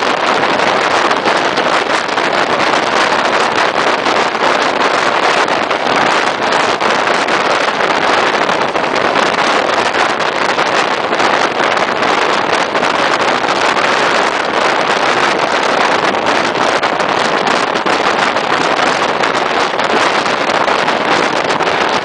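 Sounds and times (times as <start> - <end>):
train running noise: 0.0 - 22.0
wind rushing on microphone: 0.0 - 22.0.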